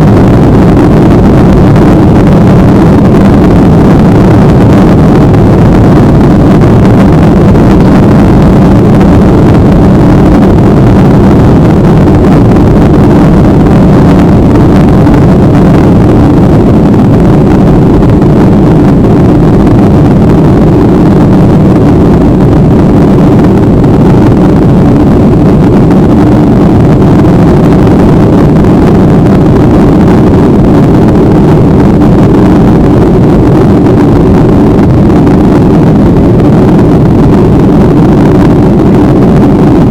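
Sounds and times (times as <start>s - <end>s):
airliner engines droning: 0.0s - 39.9s
rushing air: 0.0s - 39.9s.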